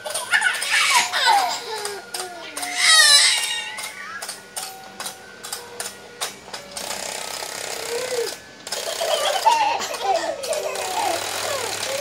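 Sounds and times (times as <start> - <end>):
toy mechanism clicking and rattling: 0.0 - 12.0.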